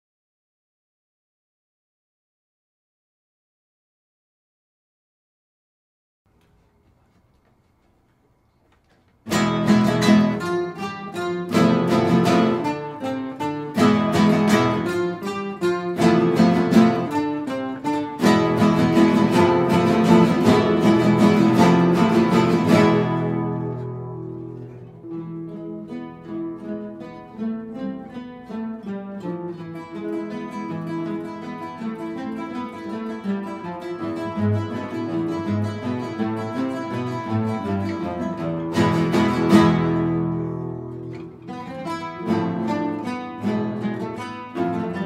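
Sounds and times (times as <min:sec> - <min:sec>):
flamenco guitar music: 0:08.8 - 0:45.0.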